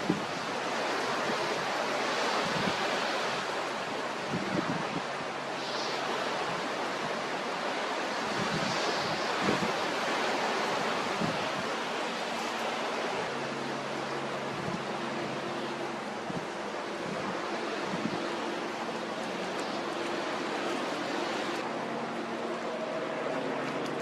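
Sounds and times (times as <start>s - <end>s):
choppy sea: 0.0s - 24.0s
wind buffeting microphone: 0.0s - 24.0s.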